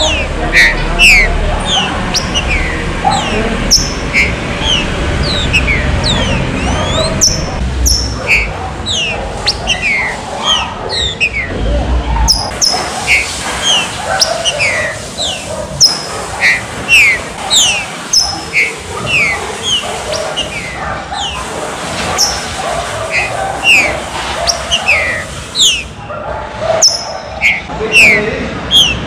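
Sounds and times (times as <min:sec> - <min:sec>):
birds whistling: 0:00.0 - 0:26.0, 0:26.6 - 0:29.0.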